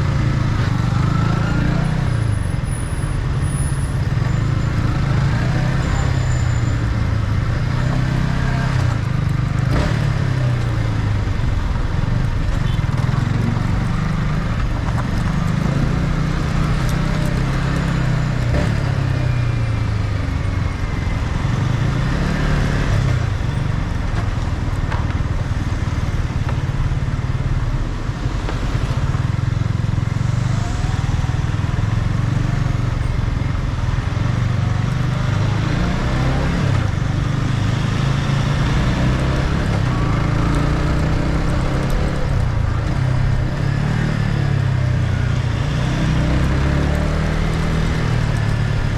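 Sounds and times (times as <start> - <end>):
wind and road noise: 0.0 - 48.9
motorcycle engine revving: 4.0 - 23.9, 24.9 - 48.9.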